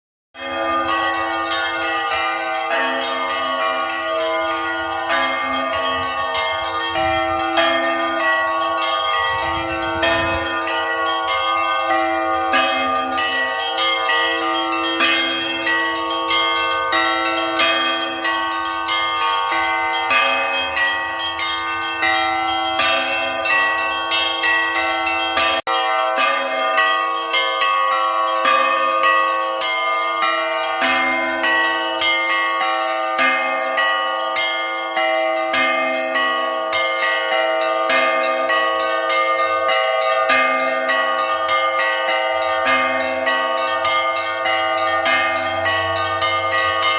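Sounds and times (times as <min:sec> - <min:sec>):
church bells pealing: 0:00.4 - 0:46.9
low long-ringing bell: 0:00.4 - 0:46.9.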